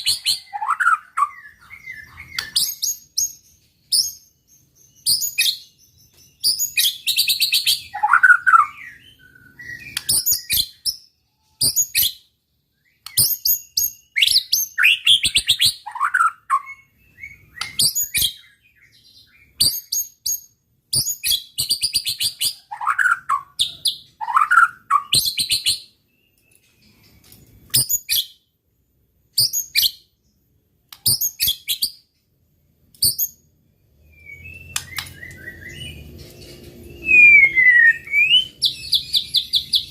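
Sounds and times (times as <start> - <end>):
songbird trills and whistles: 0.0 - 28.4, 30.9 - 32.1, 33.0 - 39.9.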